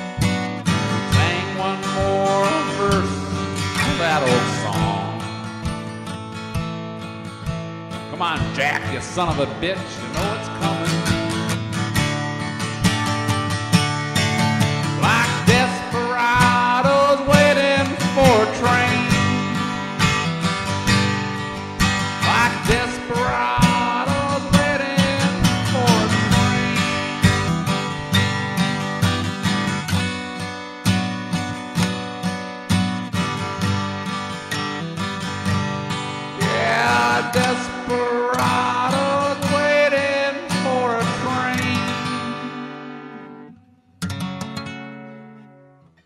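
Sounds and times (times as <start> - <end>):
acoustic guitar strumming: 0.0 - 46.0
sliding lead guitar line: 0.0 - 46.0.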